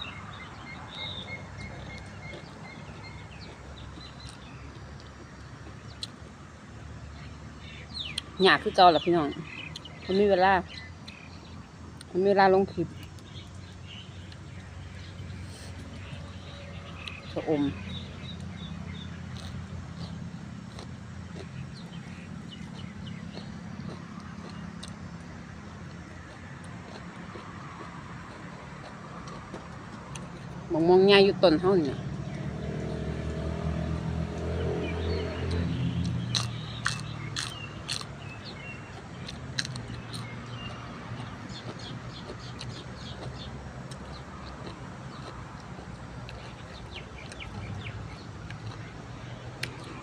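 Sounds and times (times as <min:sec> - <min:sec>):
low engine hum: 0:00.0 - 0:50.0
small birds chirping: 0:00.0 - 0:50.0.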